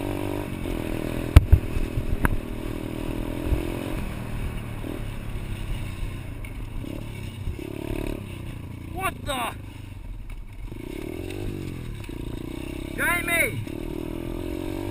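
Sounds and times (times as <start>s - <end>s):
motorbike engine running: 0.0s - 14.9s.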